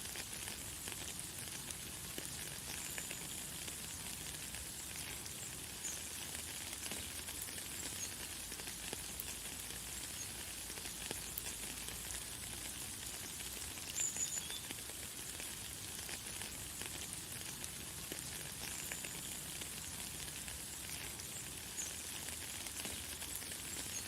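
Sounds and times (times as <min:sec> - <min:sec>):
light rain hissing: 0:00.0 - 0:24.0.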